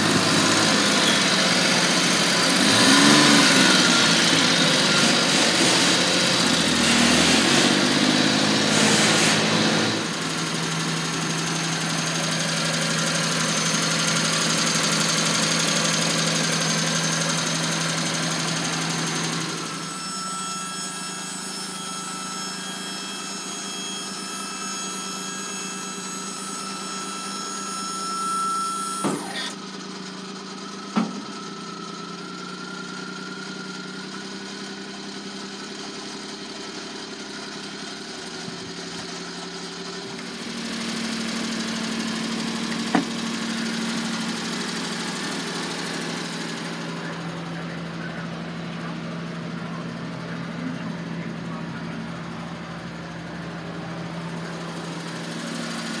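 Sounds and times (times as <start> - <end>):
truck engine running: 0.0 - 20.0, 29.1 - 56.0
hydraulic pump whine: 0.0 - 56.0.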